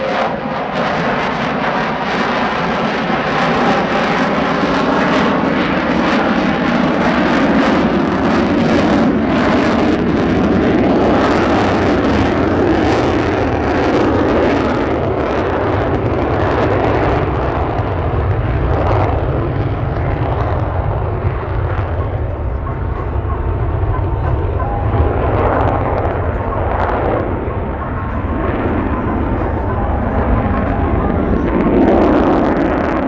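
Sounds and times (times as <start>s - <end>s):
jet roar: 0.0s - 33.0s.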